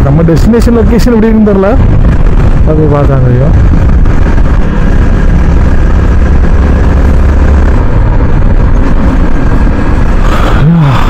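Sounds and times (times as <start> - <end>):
motorcycle engine running: 0.0 - 11.0
wind rushing on microphone: 0.0 - 11.0.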